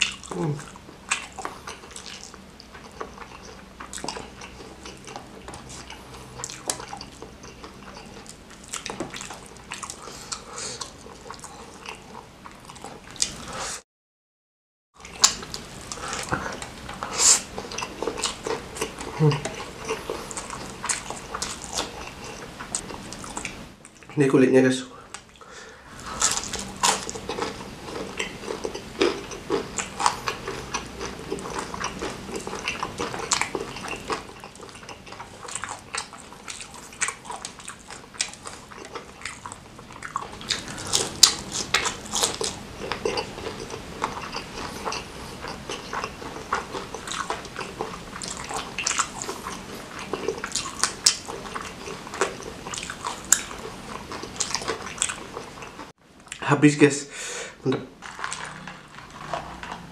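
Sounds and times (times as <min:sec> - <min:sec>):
chewing crunchy fried chicken: 0:00.0 - 0:13.6, 0:15.0 - 0:24.1, 0:25.1 - 0:56.4, 0:58.0 - 0:59.9.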